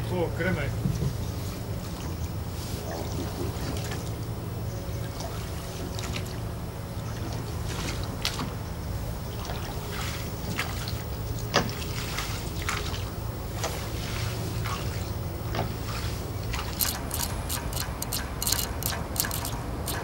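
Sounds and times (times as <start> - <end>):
steady low rumble: 0.0 - 20.0
oars dipping and splashing: 0.7 - 20.0.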